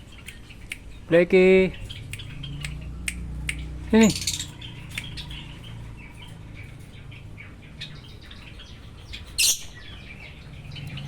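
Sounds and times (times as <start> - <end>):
bird chirping softly: 0.0 - 11.0.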